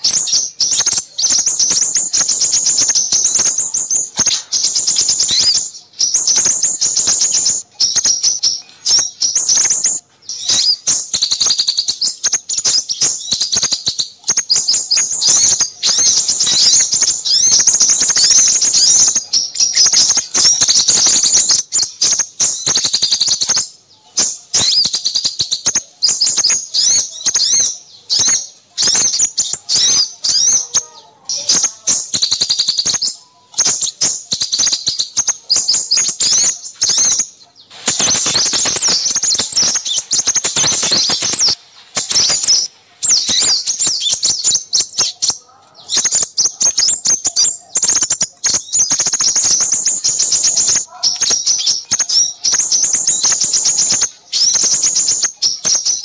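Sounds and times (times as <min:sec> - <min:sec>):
songbirds chirping chorus: 0:00.0 - 0:56.0.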